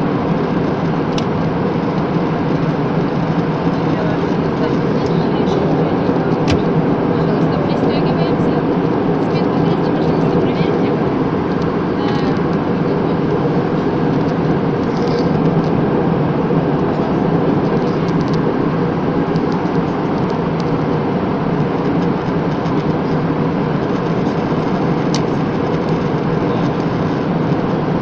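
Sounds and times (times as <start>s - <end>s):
airliner cabin engine rush: 0.0s - 28.0s.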